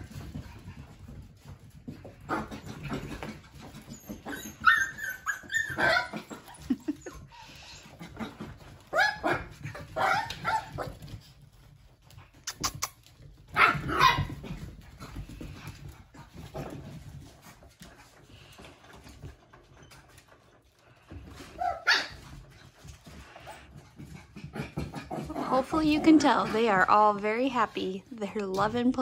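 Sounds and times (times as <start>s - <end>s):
puppies yapping and barking: 1.9s - 26.9s.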